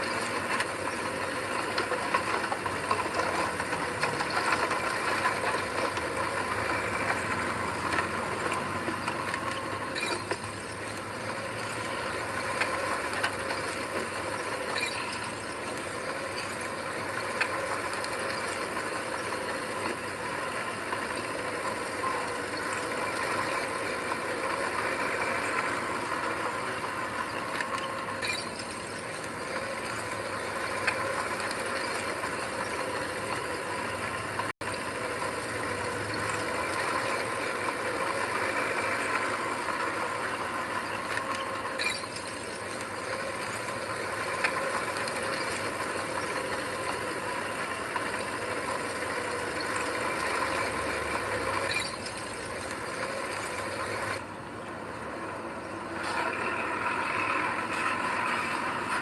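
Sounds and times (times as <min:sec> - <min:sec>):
diesel engine running: 0:00.0 - 0:54.6.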